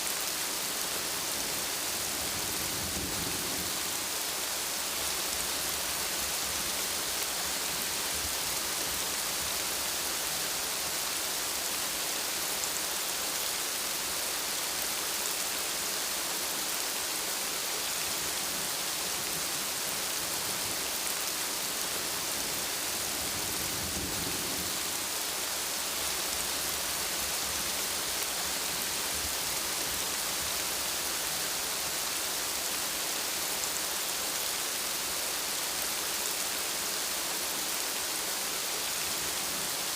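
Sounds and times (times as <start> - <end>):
steady rainfall hissing: 0.0 - 39.9.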